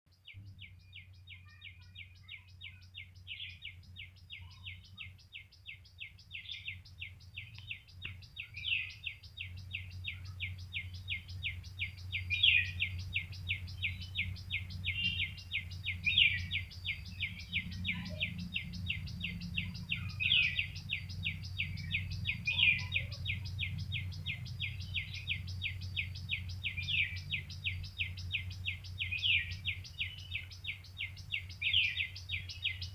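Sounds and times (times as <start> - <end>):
bird chirping: 0.1 - 32.9
low steady hum: 0.1 - 32.9
downward-slurred bird calls: 0.5 - 32.9.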